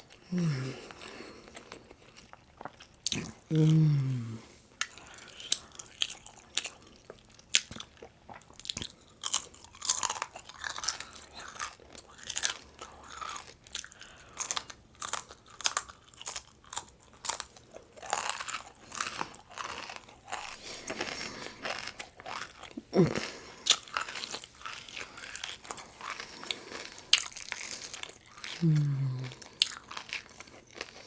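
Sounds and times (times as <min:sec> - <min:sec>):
chewing crunchy food: 0:00.0 - 0:31.0.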